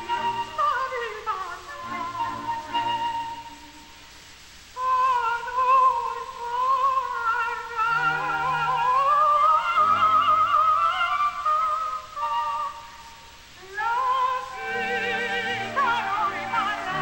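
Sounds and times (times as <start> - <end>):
soprano singing opera: 0.0 - 17.0.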